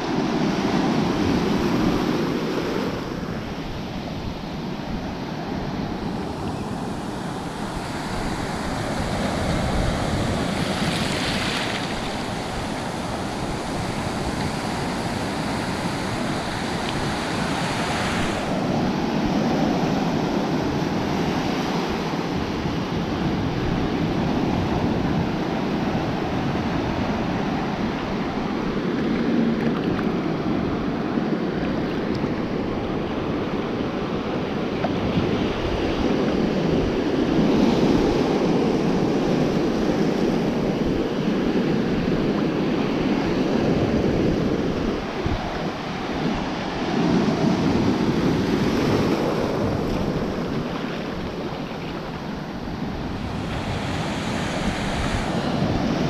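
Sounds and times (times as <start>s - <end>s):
ocean surf washing: 0.0s - 56.0s.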